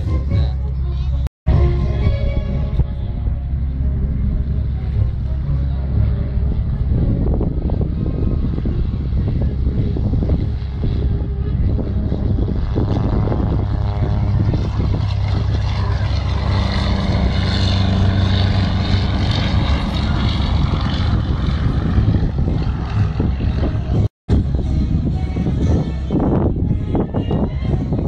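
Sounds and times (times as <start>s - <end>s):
propeller plane engine drone: 0.0s - 28.0s
steady low rumble: 0.0s - 28.0s.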